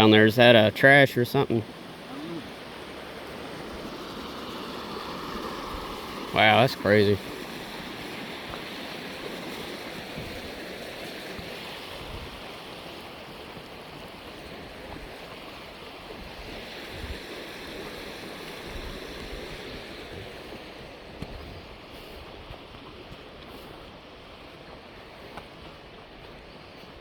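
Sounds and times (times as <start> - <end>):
floodwater rushing: 0.0 - 26.9.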